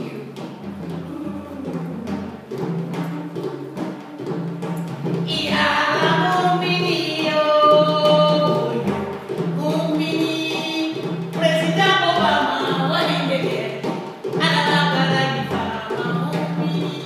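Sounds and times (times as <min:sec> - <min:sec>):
drumming: 0:00.0 - 0:17.0.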